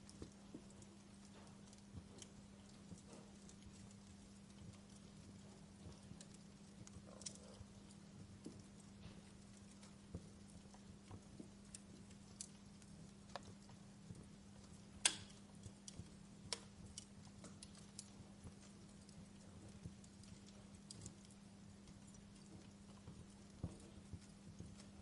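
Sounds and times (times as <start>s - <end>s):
steady low hum: 0.0s - 25.0s
wood fire crackling: 0.0s - 25.0s.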